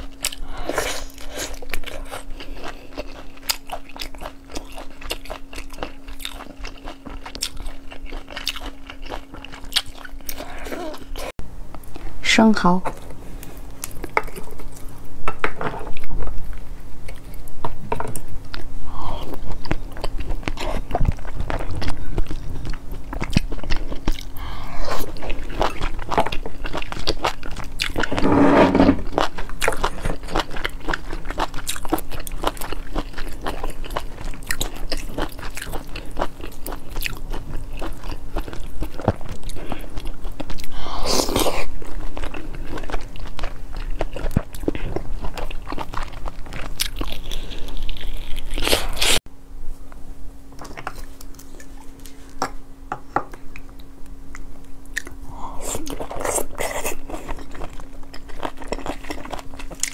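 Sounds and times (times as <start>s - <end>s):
close chewing with mouth clicks: 0.0s - 11.3s, 13.4s - 15.0s, 15.9s - 28.2s, 29.0s - 49.2s, 53.3s - 59.9s.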